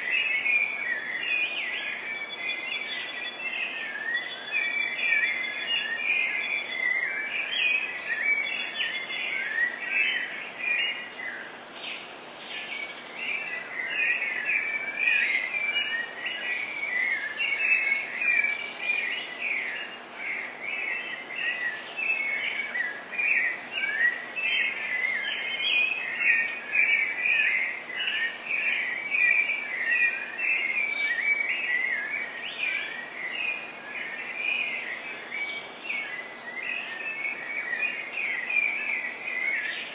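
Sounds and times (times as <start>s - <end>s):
birds chirping: 0.0s - 39.9s
faint steady hiss: 0.0s - 39.9s.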